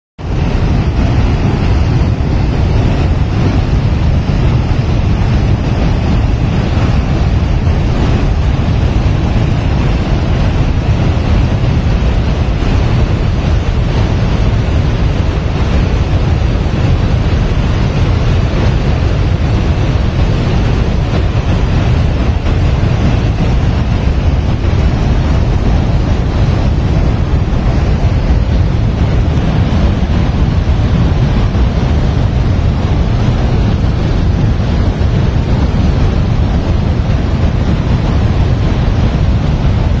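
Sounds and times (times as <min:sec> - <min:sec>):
flooded river rushing: 0:00.2 - 0:40.0.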